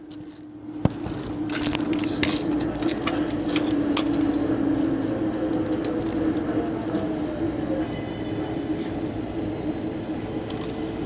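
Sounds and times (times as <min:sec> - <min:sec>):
subway car hum: 0:00.0 - 0:11.0.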